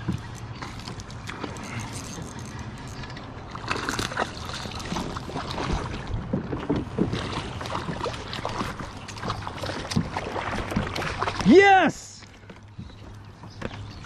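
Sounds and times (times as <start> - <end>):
water sloshing around a kayak: 0.0 - 14.0.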